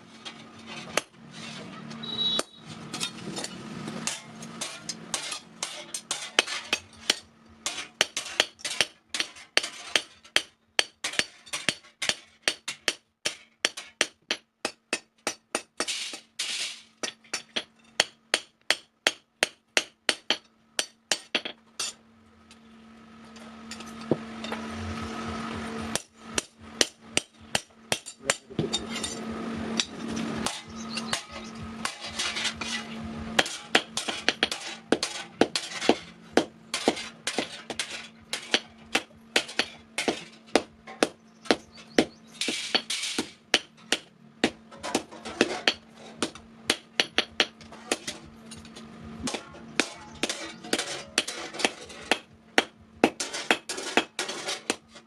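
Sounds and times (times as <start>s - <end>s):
steady hum: 0.0s - 55.0s
hammer on metal on anvil: 2.2s - 22.0s, 25.9s - 32.8s, 33.4s - 54.9s.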